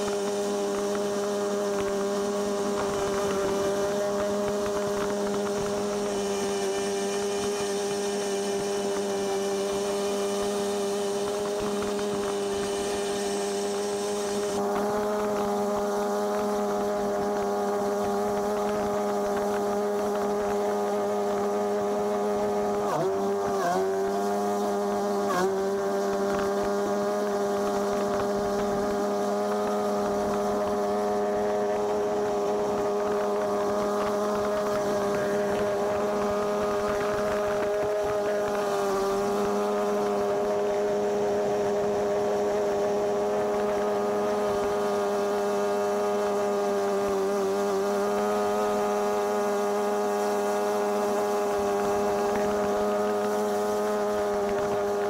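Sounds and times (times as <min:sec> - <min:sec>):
high whine: 0:00.0 - 0:55.0
model boat nitro engine: 0:00.0 - 0:55.0.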